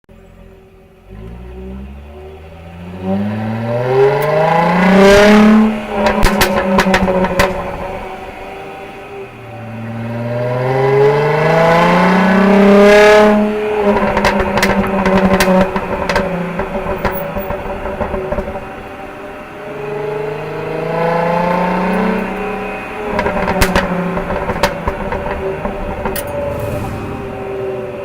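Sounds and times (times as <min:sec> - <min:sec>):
car engine accelerating: 0:00.1 - 0:28.0
exhaust crackling: 0:00.8 - 0:28.0.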